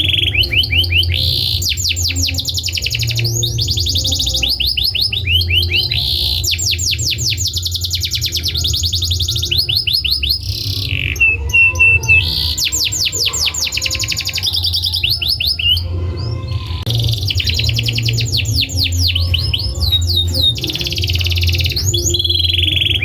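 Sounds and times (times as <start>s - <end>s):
canary held whistle: 0.0s - 23.0s
canary singing trills: 0.0s - 23.0s.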